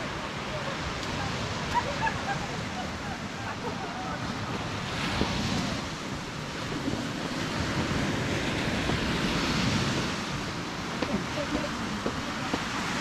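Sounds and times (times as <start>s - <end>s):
surf washing onto beach: 0.0s - 13.0s
wind rumbling on microphone: 0.0s - 13.0s.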